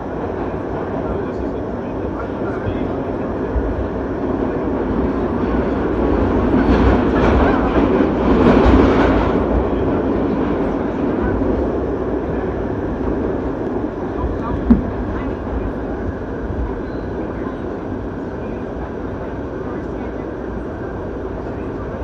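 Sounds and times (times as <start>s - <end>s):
subway train wheels on track: 0.0s - 22.0s.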